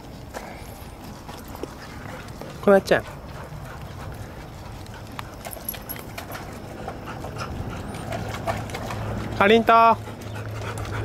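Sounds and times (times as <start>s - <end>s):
dog claws clicking on wooden deck: 0.3s - 11.0s.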